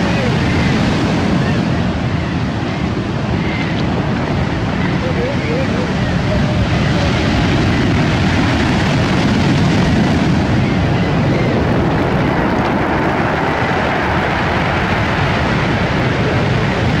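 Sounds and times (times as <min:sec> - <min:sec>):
surf washing over pebbles: 0:03.0 - 0:17.0.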